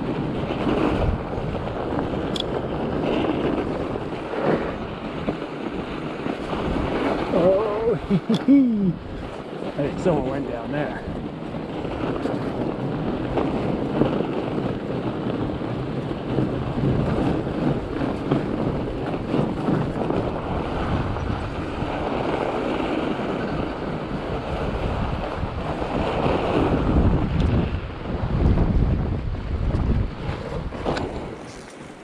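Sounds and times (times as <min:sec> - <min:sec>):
tyres rolling on snow: 0:00.0 - 0:32.0
wind buffeting microphone: 0:00.0 - 0:32.0.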